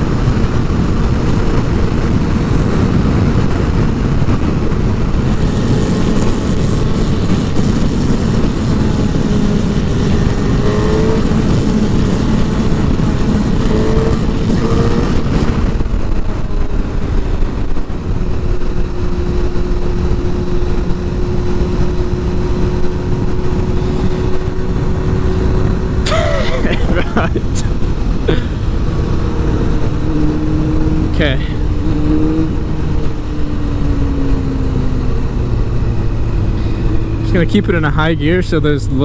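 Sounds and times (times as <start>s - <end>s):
motorcycle engine: 0.0s - 39.0s
wind rush on microphone: 0.0s - 39.0s.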